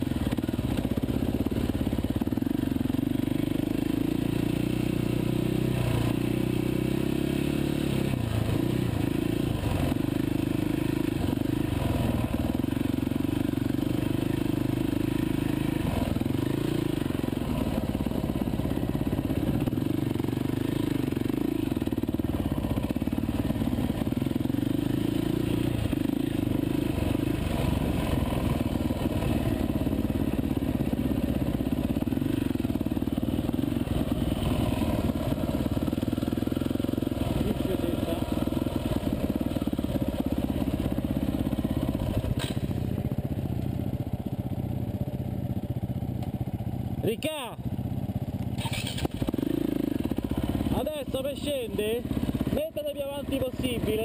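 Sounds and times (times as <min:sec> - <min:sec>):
dirt bike engine revving: 0:00.2 - 0:42.9, 0:48.6 - 0:54.0.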